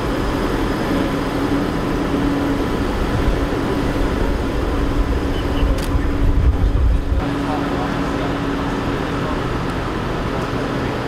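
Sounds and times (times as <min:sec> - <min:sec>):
engine humming: 0:00.0 - 0:11.0
street traffic rumble: 0:00.0 - 0:11.0.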